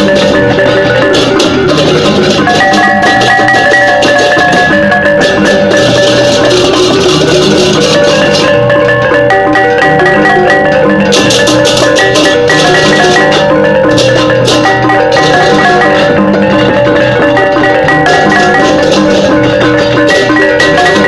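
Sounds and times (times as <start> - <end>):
cymbals clashing: 0.0 - 21.0
drums: 0.0 - 21.0
metallophones ringing: 0.0 - 21.0.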